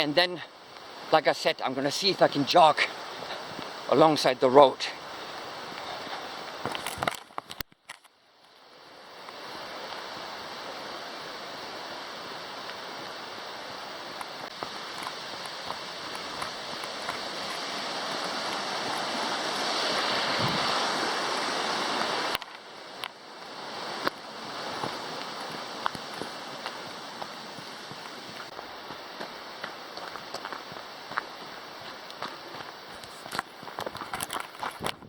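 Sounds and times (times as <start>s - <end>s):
creek water rushing: 0.0s - 6.8s, 8.6s - 34.6s.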